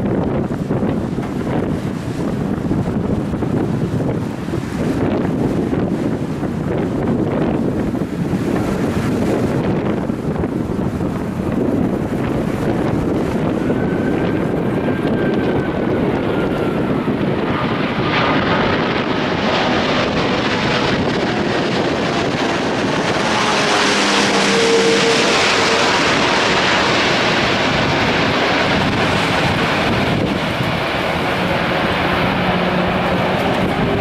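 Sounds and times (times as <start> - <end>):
jet engines roaring: 0.0 - 34.0
wind buffeting microphone: 0.0 - 34.0.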